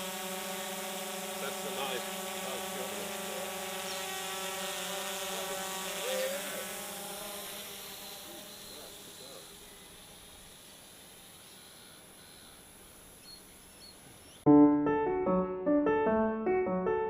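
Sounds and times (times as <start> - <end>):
drone propellers buzzing: 0.0 - 14.4.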